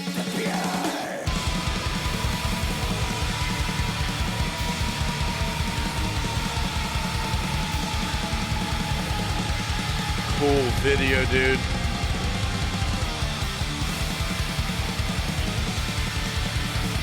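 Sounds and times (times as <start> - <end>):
distorted guitars: 0.0 - 17.0
fast pounding drums: 0.0 - 17.0.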